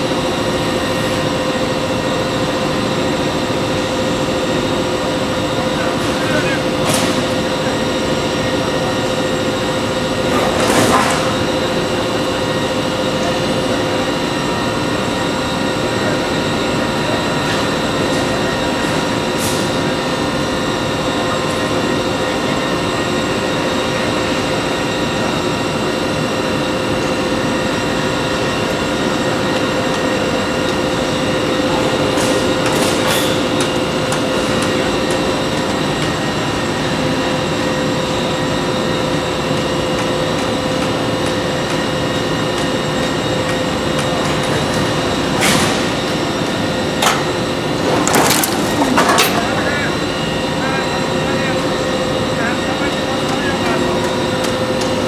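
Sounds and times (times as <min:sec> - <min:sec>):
machine hum with whine: 0:00.0 - 0:55.0.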